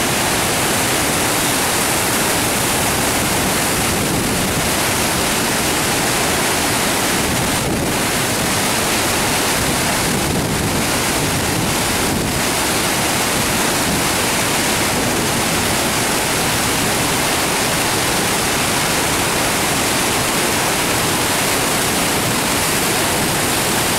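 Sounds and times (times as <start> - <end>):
water pouring over a dam: 0.0 - 23.9.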